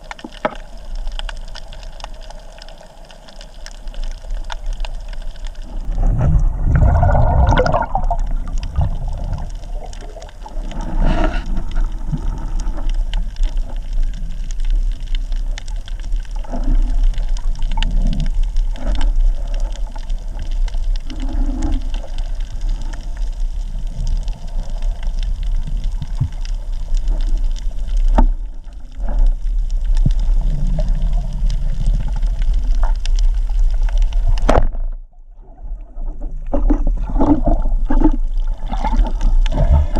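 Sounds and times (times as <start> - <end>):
small underwater clicks: 0.0 - 35.1, 35.8 - 39.9
underwater rush of water: 0.0 - 39.9.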